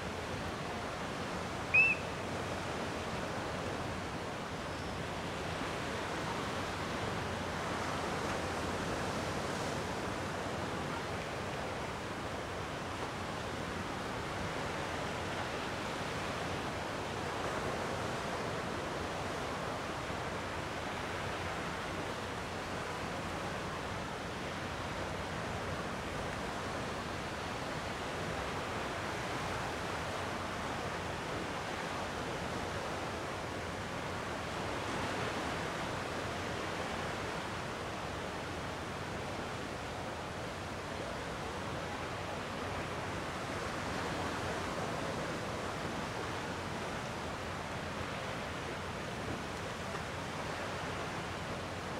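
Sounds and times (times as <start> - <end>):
gentle sea waves washing ashore: 0.0 - 51.9.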